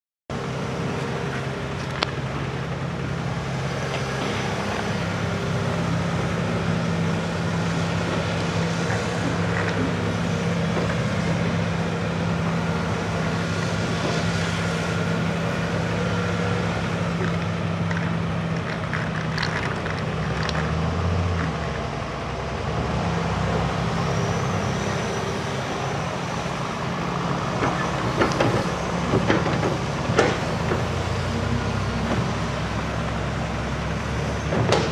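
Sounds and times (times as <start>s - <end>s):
excavator and tractor engines: 0.3s - 34.9s.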